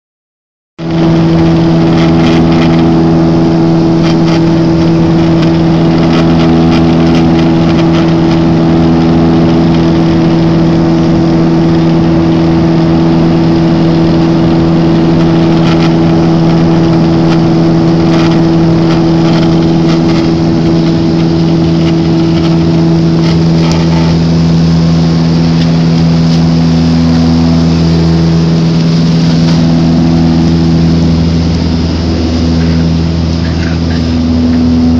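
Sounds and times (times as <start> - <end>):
turboprop engine drone: 0.8 - 34.9.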